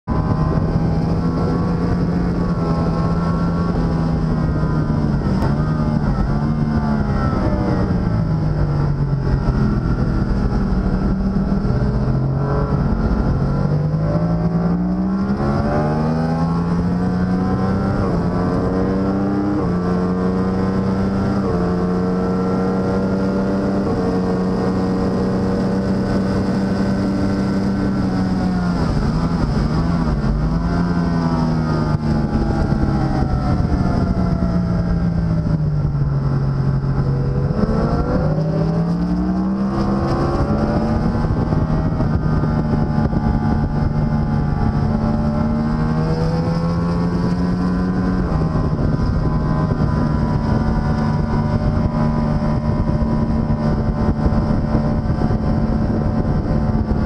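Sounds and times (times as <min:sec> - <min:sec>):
racing motorcycle engine revving: 0:00.0 - 0:57.0
wind rush: 0:00.0 - 0:57.0.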